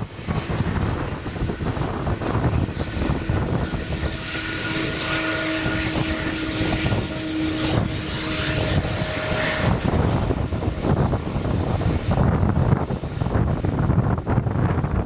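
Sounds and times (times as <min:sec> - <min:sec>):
jet engines humming: 0:00.0 - 0:15.0
wind buffeting microphone: 0:00.0 - 0:15.0.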